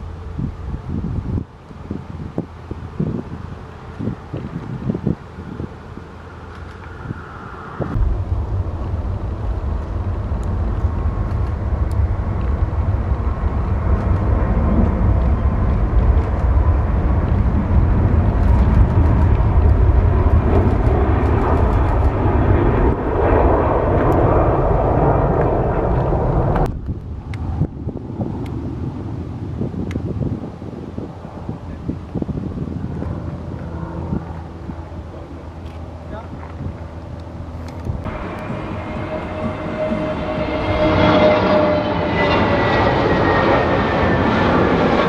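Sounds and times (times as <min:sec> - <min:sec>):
jet engines roaring at takeoff: 0:00.0 - 0:45.0.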